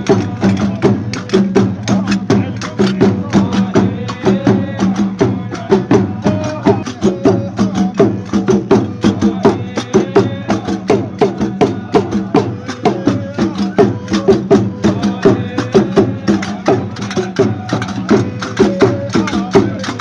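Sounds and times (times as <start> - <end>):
frame drums: 0.0 - 20.0
men singing: 0.0 - 20.0.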